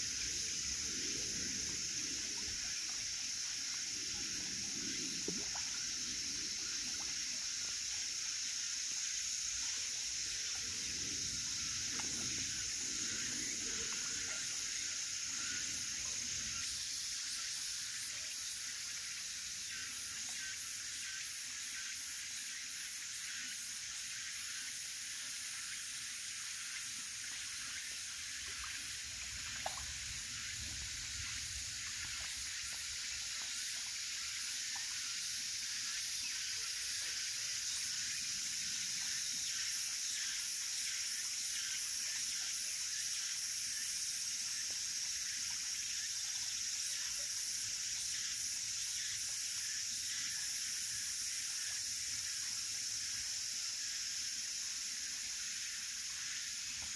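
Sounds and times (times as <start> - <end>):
high-pitched outdoor hiss: 0.0 - 56.9.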